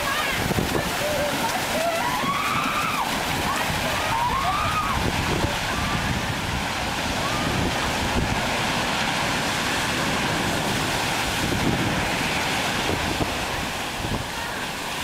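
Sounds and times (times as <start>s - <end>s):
heavy surf breaking: 0.0s - 15.0s
wind rumbling on microphone: 0.0s - 15.0s.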